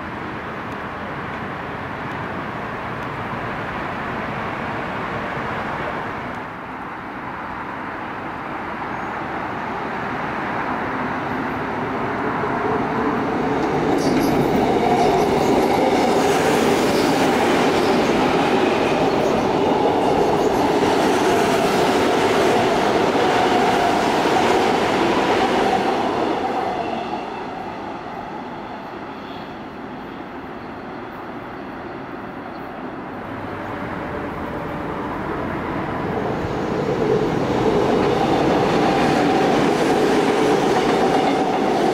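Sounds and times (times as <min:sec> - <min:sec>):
electric train passing on bridge: 0:00.0 - 0:41.9.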